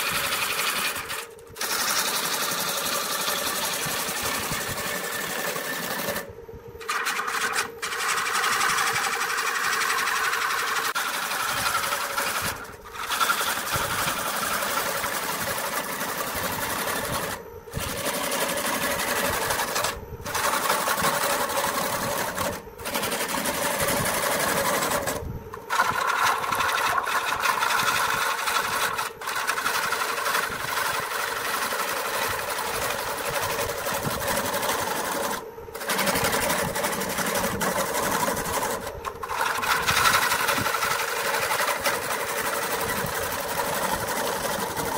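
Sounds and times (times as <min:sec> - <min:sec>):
lathe motor hum: 0:00.0 - 0:44.9
tool cutting wood on lathe: 0:00.0 - 0:44.9.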